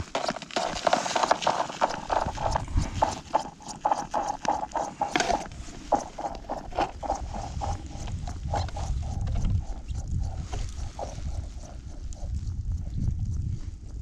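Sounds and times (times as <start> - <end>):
plastic spool clicking: 0.0 - 12.4.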